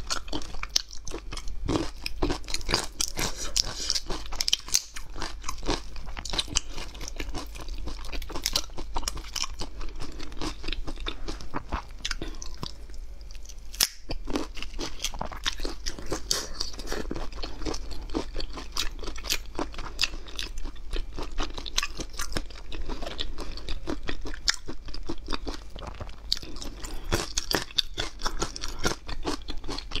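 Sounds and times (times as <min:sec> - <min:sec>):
person chewing with crunches: 0:00.0 - 0:30.0.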